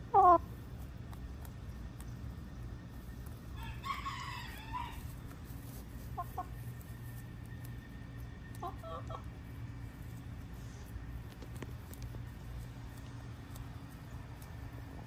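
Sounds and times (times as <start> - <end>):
chickens clucking: 0.0 - 15.0
low background hum: 0.0 - 15.0.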